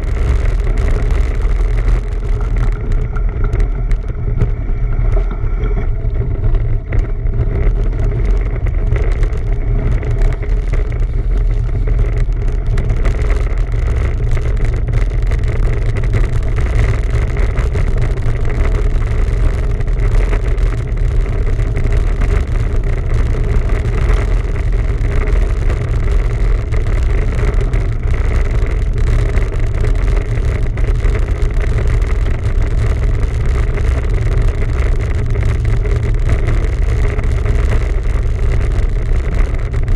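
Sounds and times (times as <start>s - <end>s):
bicycle rolling noise: 0.0s - 39.9s
wind rumble on microphone: 0.0s - 39.9s.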